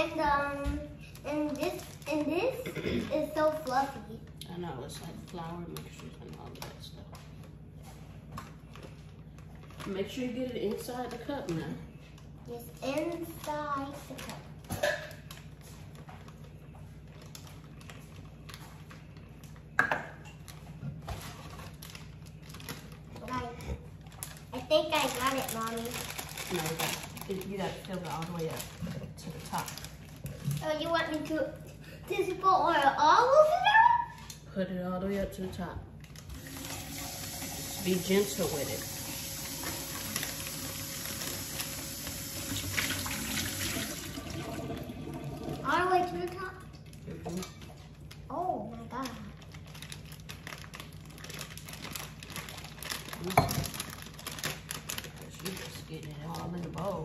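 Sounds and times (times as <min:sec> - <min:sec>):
plastic bag crinkling: 0:00.9 - 0:31.5, 0:36.0 - 0:57.0.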